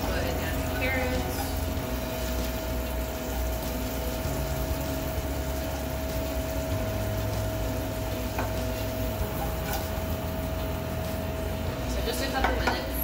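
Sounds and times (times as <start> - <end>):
carrots sizzling in butter: 0.0 - 13.0.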